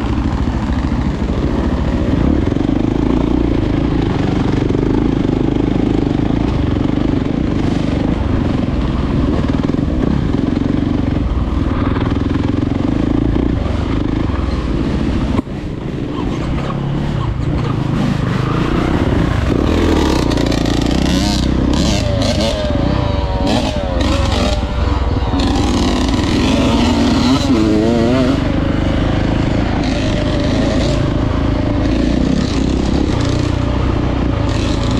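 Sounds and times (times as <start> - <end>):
dirt bike engine under throttle: 0.0 - 34.9.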